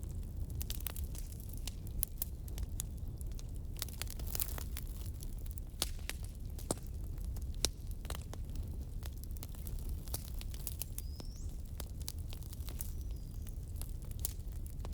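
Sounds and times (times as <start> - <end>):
firewood crackling and popping: 0.0 - 14.9.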